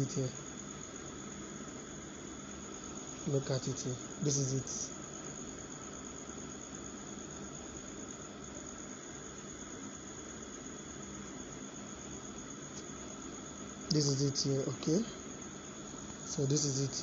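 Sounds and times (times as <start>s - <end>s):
background hiss: 0.0s - 17.0s
faint low hum: 0.0s - 17.0s.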